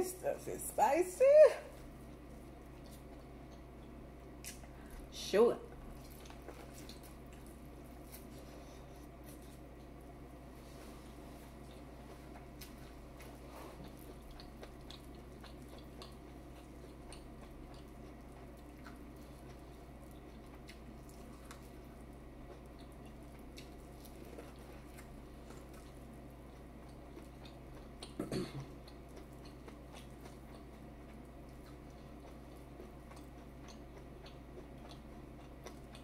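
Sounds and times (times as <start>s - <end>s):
wet chewing clicks and smacks: 2.0s - 4.7s, 5.9s - 8.3s, 11.6s - 36.0s.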